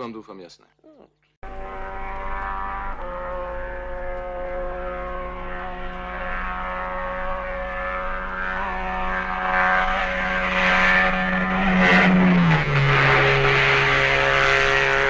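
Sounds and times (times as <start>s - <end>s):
steady engine drone: 1.4s - 15.0s.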